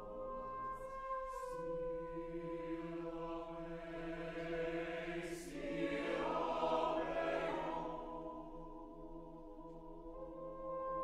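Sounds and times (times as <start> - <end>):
choir singing sustained chords: 0.0 - 11.0.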